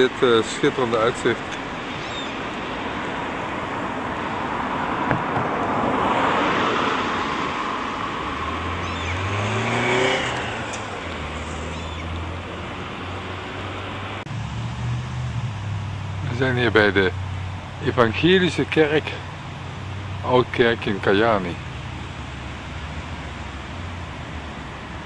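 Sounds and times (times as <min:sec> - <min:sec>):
low engine drone: 0:00.0 - 0:25.0
vehicle accelerating: 0:00.0 - 0:25.0
vehicle passing: 0:00.0 - 0:25.0.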